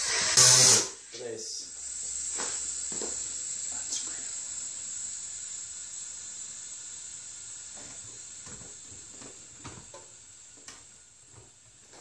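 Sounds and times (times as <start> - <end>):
gas hissing and fizzing: 0.0 - 12.0.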